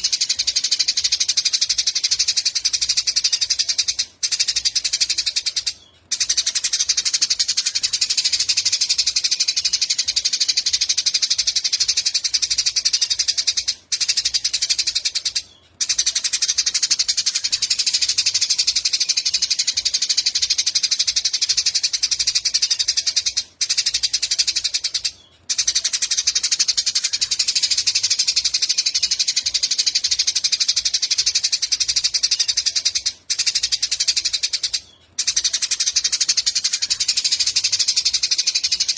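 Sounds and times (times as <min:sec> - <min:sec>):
sparrows chattering: 0:00.0 - 0:38.9.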